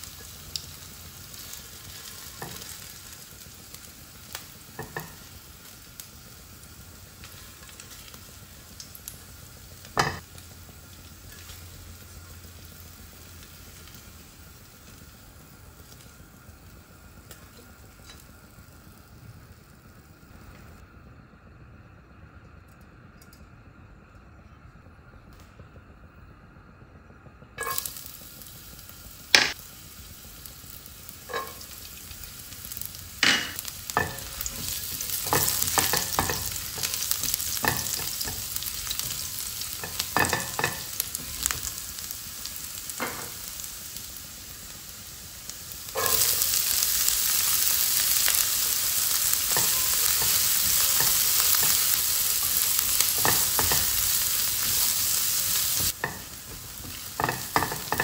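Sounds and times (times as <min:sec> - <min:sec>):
ginger sizzling in hot oil: 0:00.0 - 0:21.3, 0:26.7 - 0:58.0.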